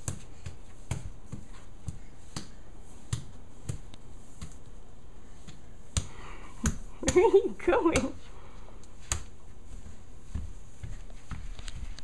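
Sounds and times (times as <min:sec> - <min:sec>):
light taps with soft thuds: 0:00.0 - 0:12.0.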